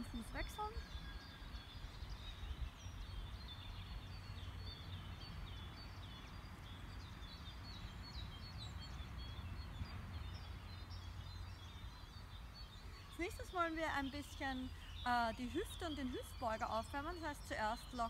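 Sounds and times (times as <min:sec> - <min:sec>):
songbirds chirping and whistling: 0:00.0 - 0:18.0.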